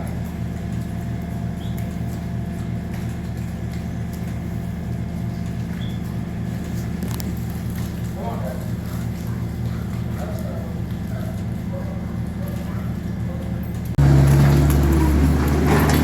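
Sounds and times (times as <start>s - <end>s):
farm machinery droning: 0.0s - 11.6s, 13.0s - 16.0s.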